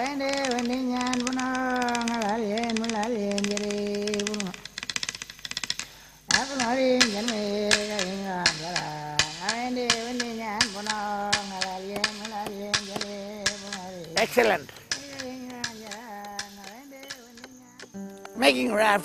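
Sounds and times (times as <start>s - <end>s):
person singing long held notes: 0.0s - 4.6s, 6.3s - 19.0s
rhythmic clicking: 0.0s - 19.0s.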